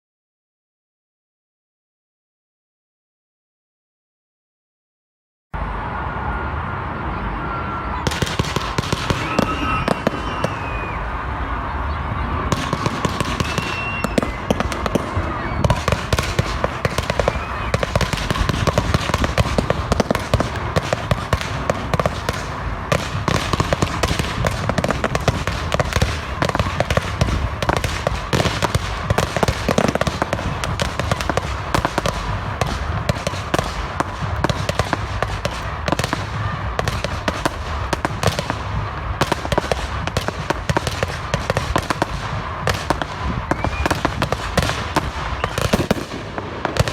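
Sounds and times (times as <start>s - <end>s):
fireworks bangs and crackles: 5.8s - 46.9s.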